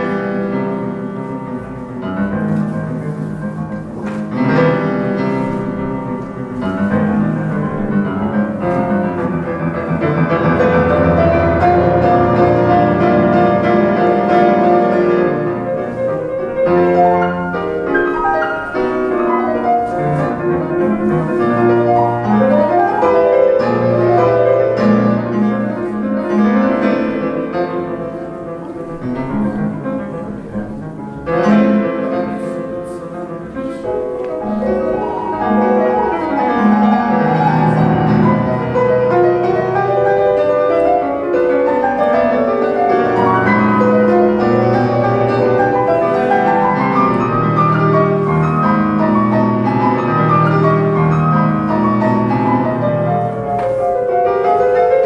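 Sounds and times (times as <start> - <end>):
classical piano music over loudspeakers: 0.0 - 55.0.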